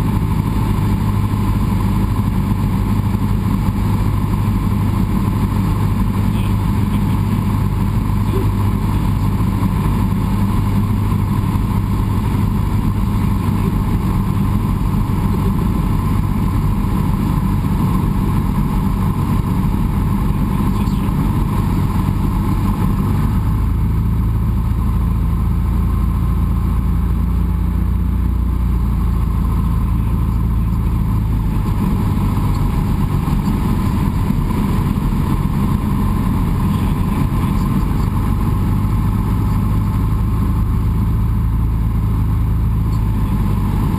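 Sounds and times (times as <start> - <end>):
propeller plane engine droning: 0.0 - 43.9.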